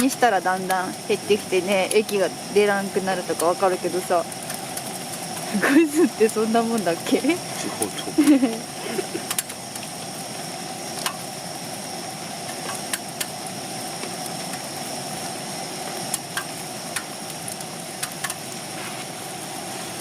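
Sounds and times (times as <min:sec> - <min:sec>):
gas burner hissing: 0:00.0 - 0:20.0.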